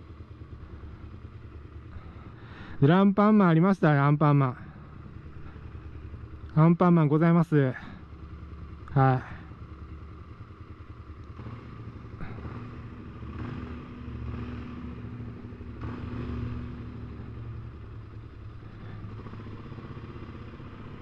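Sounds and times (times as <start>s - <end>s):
motorcycle engine running at low revs: 0.0s - 21.0s.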